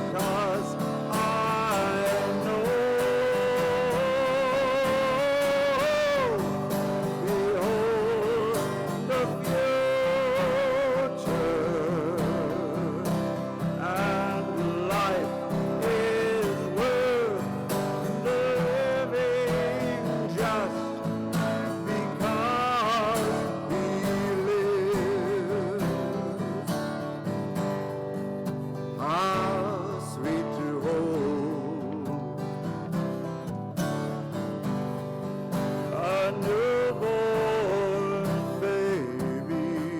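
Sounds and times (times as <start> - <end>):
guitar accompaniment: 0.0 - 39.9.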